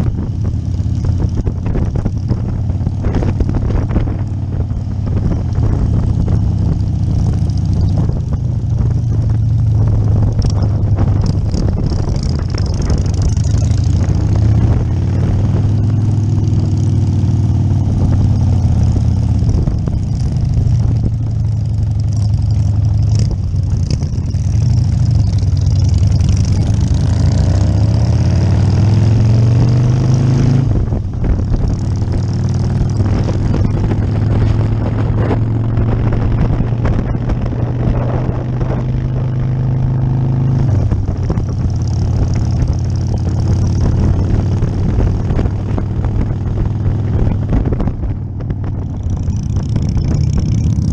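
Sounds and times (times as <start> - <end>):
wind rush: 0.0 - 22.0, 22.6 - 50.9
motorcycle engine running: 0.0 - 50.9.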